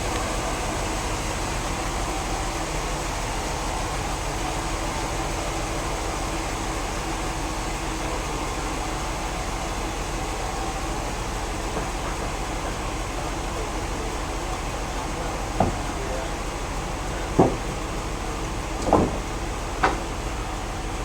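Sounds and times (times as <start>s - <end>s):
sawmill saw machinery running: 0.0s - 21.0s.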